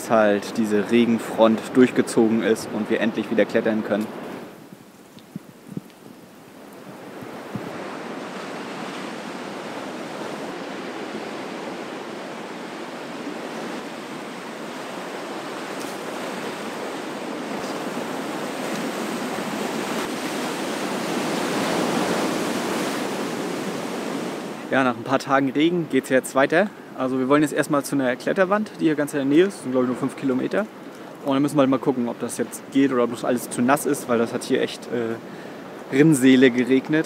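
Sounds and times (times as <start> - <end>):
sea surf on rocky shore: 0.0 - 37.0
wind: 0.0 - 37.0.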